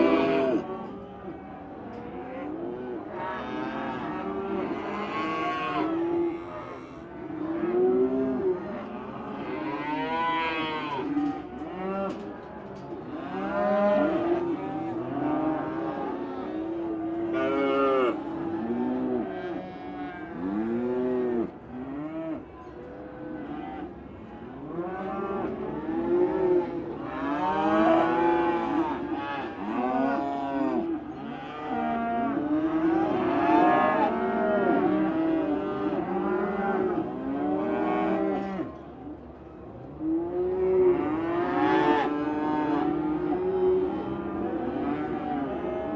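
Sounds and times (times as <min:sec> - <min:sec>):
cows mooing: 0:00.0 - 0:01.4, 0:02.0 - 0:22.2, 0:24.6 - 0:38.7, 0:40.4 - 0:45.9.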